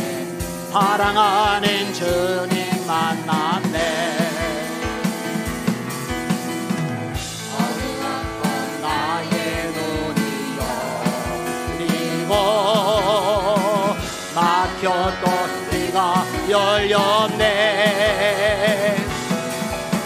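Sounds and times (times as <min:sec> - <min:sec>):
singers singing gospel song: 0:00.0 - 0:05.5, 0:07.2 - 0:20.0
band with steady beat: 0:00.0 - 0:20.0.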